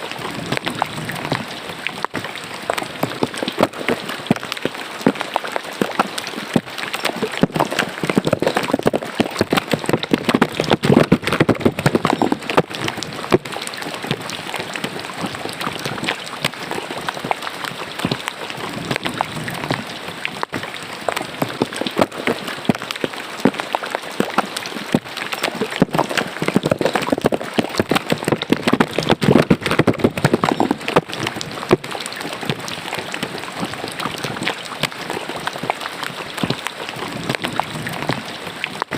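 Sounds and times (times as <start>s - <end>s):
rain splashing into a drain: 0.0s - 38.9s.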